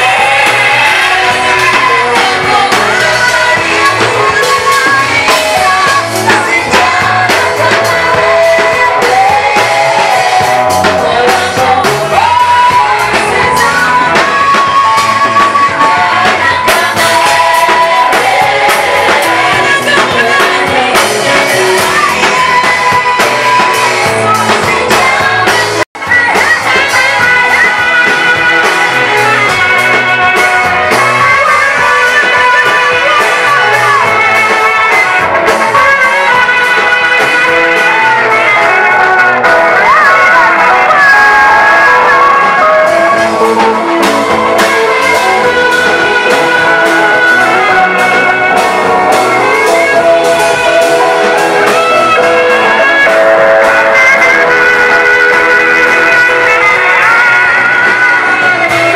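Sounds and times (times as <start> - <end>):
group singing gospel music: 0.0 - 58.9.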